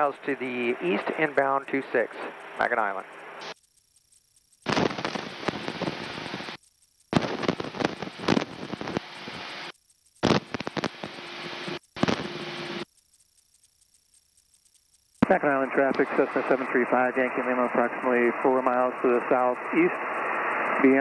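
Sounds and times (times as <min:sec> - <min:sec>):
radio static bursts: 0:00.0 - 0:21.0.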